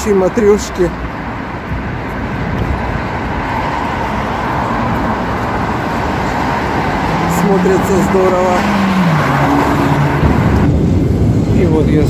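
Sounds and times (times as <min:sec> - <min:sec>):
passing cars traffic: 0:00.0 - 0:12.0.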